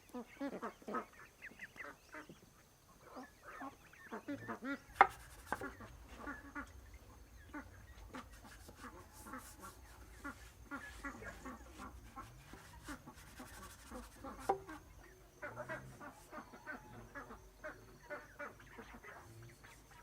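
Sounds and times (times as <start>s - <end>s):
poultry calling: 0.0s - 20.0s.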